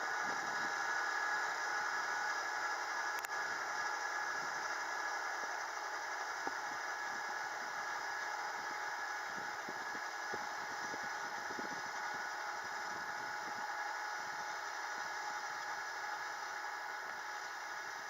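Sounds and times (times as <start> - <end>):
steady whine: 0.0 - 18.0.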